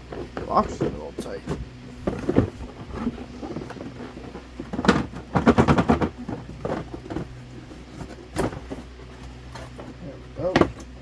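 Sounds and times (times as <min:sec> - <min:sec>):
cardboard box scraping and rattling: 0:00.0 - 0:10.8.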